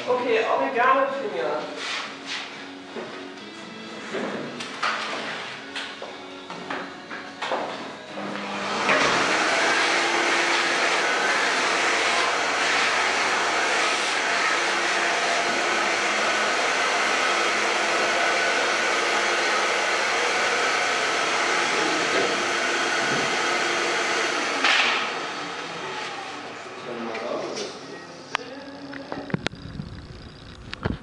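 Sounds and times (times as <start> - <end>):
shop vacuum running: 1.5 - 31.0.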